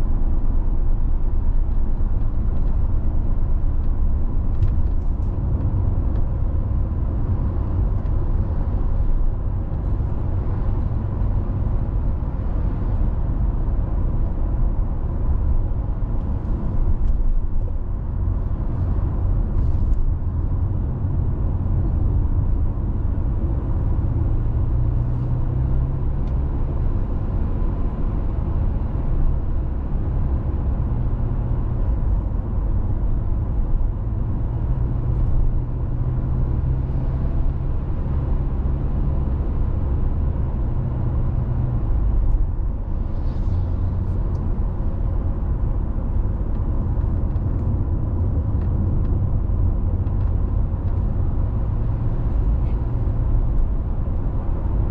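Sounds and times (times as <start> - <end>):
car road noise from inside: 0.0 - 54.9.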